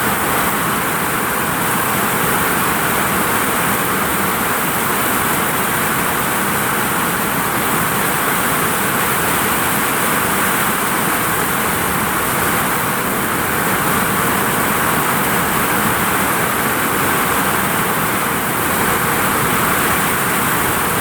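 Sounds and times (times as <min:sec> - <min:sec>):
heavy rain on a vinyl roof: 0:00.0 - 0:21.0.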